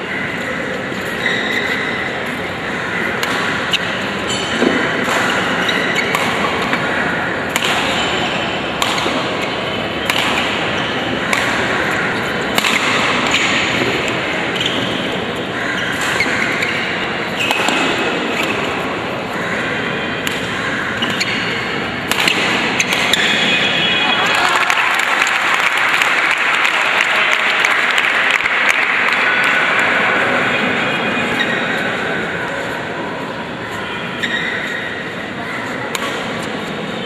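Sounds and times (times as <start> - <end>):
crowd noise: 0.0 - 37.0
rackets hitting shuttlecock: 0.6 - 23.9, 27.7 - 32.0, 34.2 - 37.0.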